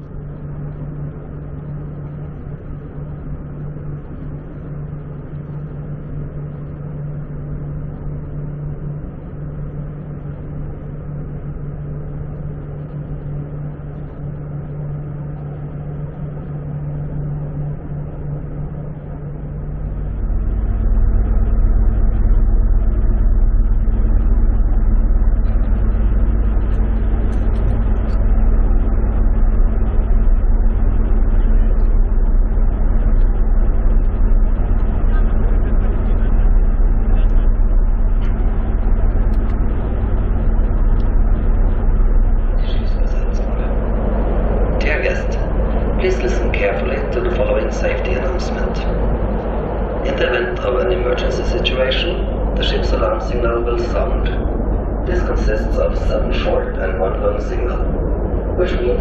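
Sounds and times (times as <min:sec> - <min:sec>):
ferry engines droning: 0:00.0 - 0:59.0.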